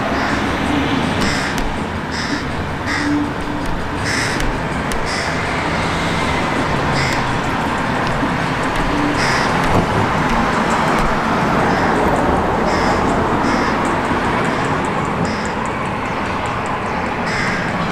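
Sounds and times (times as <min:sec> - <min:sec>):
road traffic noise: 0:00.0 - 0:17.9.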